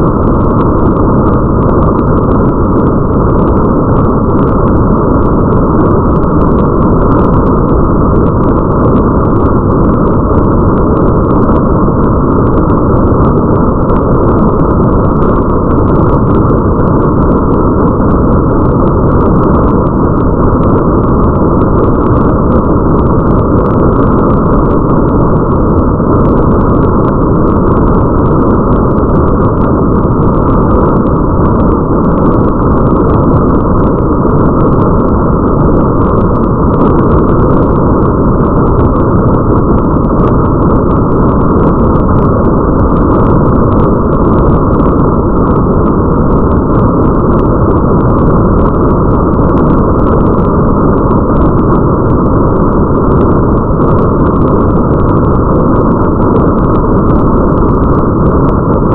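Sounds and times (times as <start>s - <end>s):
muffled rain: 0.0s - 58.9s.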